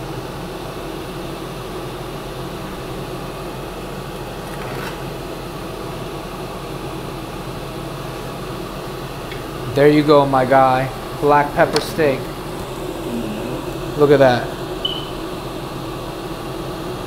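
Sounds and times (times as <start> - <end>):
kitchen fan whirring: 0.0 - 17.0.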